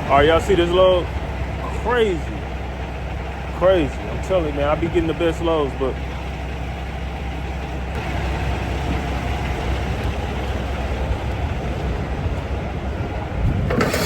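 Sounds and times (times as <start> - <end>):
heavy vehicle engine idling: 0.0 - 14.0.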